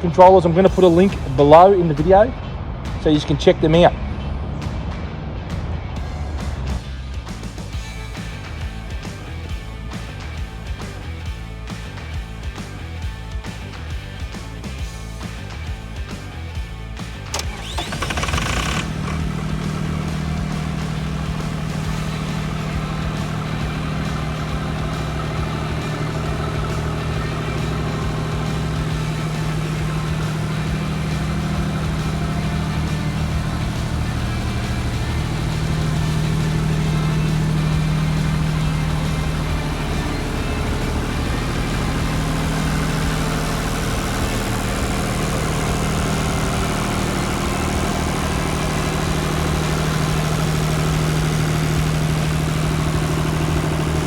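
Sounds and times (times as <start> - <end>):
diesel generator running: 0.0 - 54.0.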